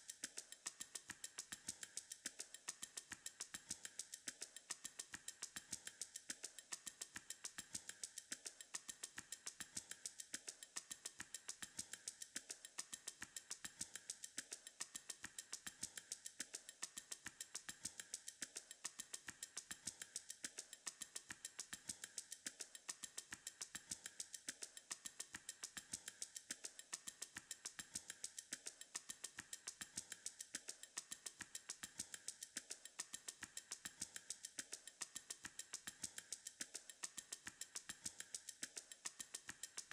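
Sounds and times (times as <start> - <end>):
faint ticking beat music: 0.0 - 39.9.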